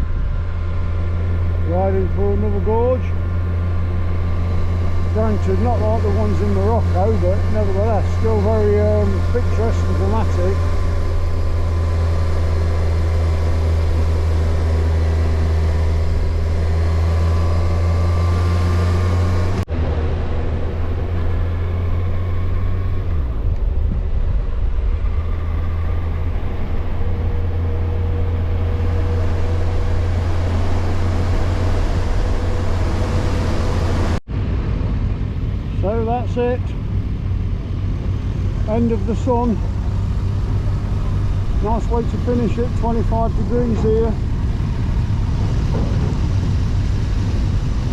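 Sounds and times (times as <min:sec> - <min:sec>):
motorcycle engine drone: 0:00.0 - 0:47.9
wind and road noise: 0:00.0 - 0:47.9.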